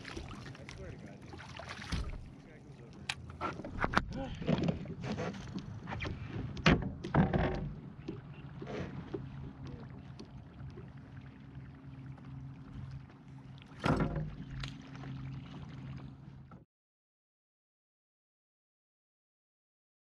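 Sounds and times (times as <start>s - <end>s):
low steady hum: 0.0s - 16.5s.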